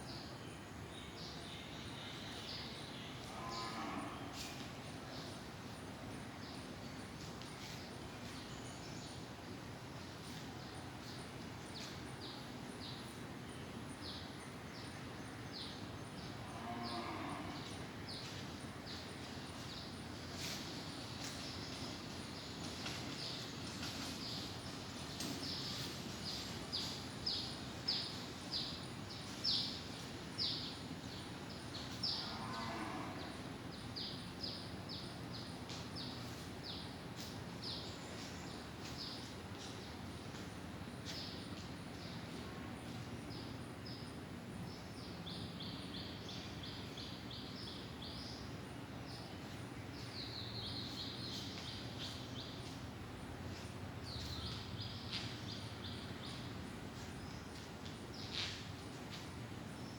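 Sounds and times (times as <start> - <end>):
background noise: 0.0 - 59.9.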